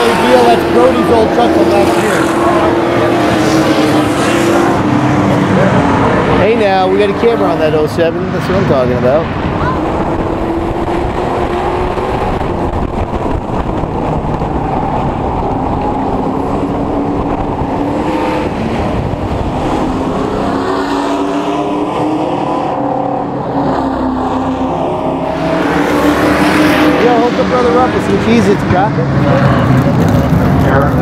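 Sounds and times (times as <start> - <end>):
race truck engine running hard: 0.0 - 31.0
race trucks passing by: 0.0 - 31.0.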